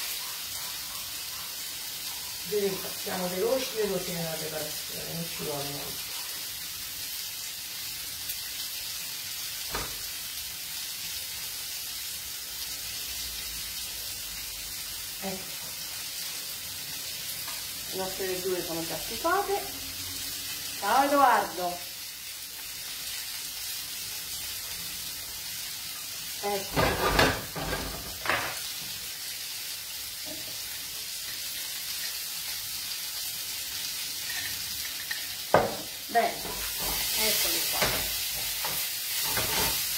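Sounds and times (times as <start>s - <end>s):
oil sizzling in frying pan: 0.0s - 39.9s.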